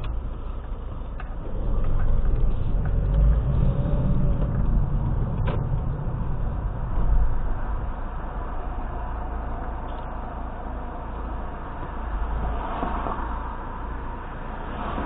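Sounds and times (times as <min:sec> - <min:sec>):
road and engine rumble inside car: 0:00.0 - 0:15.0.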